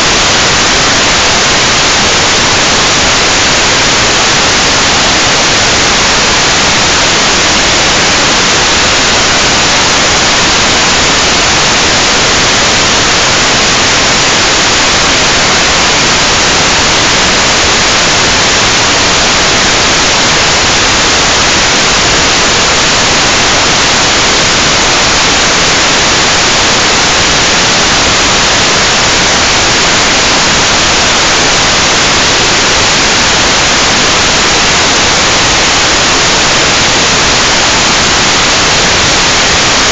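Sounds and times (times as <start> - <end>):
static hiss from video receiver: 0.0 - 39.9.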